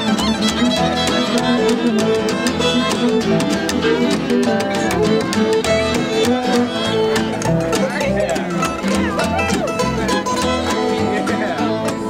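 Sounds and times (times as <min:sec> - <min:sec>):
bluegrass fiddle playing: 0:00.0 - 0:12.0
strummed rhythm: 0:00.0 - 0:12.0.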